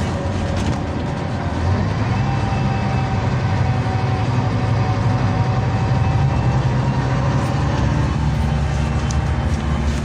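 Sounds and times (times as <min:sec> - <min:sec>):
bus engine drone: 0:00.0 - 0:10.0
tyre and road noise: 0:00.0 - 0:10.0.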